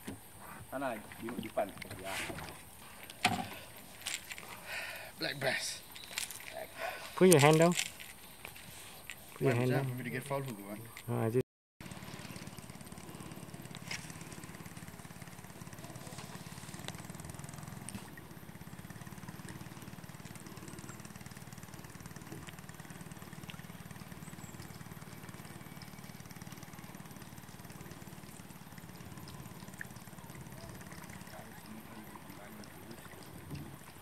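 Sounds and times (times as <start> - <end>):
small boat motor running: 0.0 - 34.0.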